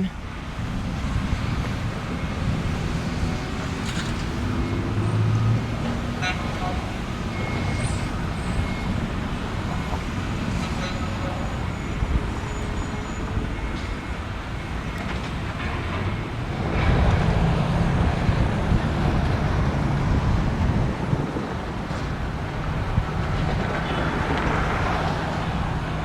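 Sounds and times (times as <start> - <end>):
large vehicle engine hum: 0.0 - 26.0
street traffic noise: 0.0 - 26.0.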